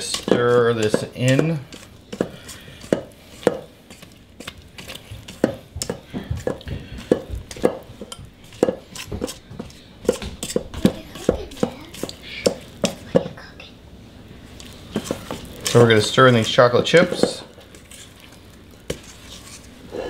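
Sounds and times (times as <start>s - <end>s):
spatula scraping a metal bowl: 0.0s - 13.0s, 14.9s - 20.0s.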